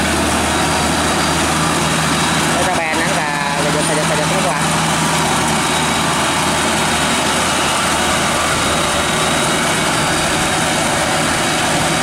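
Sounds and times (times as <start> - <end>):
tiller engine running under load: 0.0 - 12.0.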